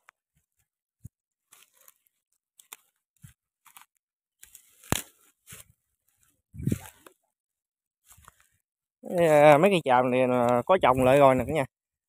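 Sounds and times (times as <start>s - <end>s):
twigs crunching under footsteps: 0.0s - 11.6s.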